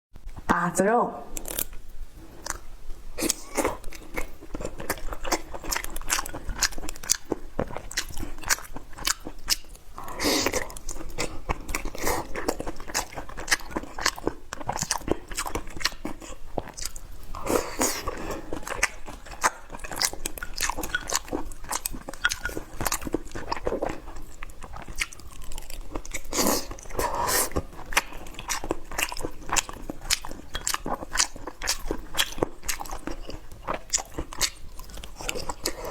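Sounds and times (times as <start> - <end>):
person chewing crunchy food: 1.4 - 35.9.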